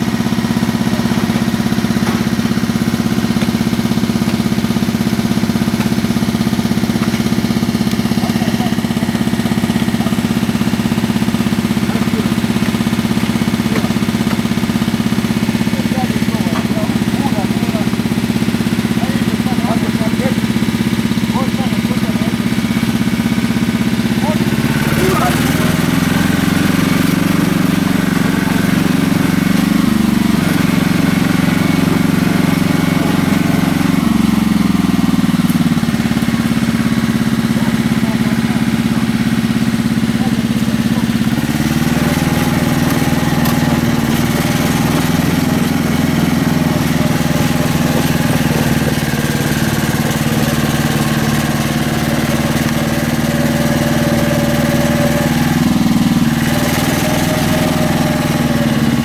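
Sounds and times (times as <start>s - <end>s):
small engine running under load: 0.0s - 59.0s.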